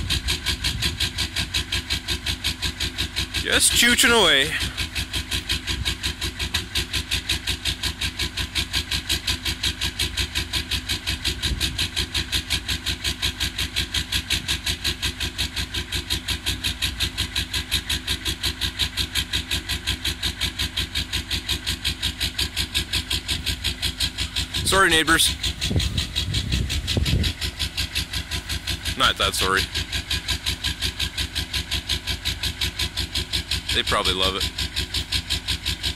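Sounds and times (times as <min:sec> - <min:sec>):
diesel engine idling unevenly: 0:00.0 - 0:35.9.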